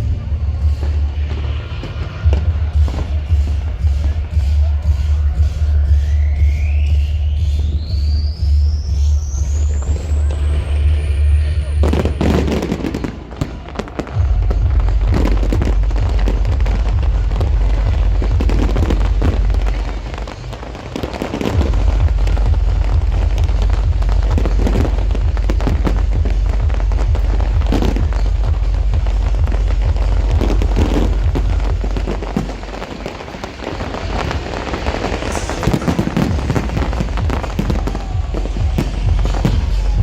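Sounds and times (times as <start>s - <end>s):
electronic dance music: 0.0s - 40.0s
fireworks bursting: 0.0s - 40.0s.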